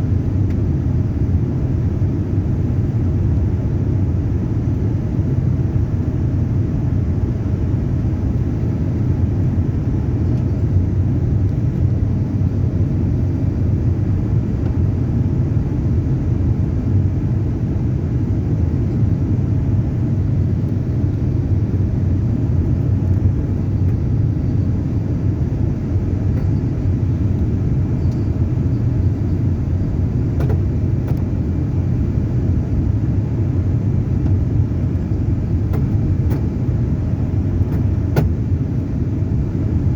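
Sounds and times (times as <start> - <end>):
jet cabin engine rumble: 0.0 - 39.9.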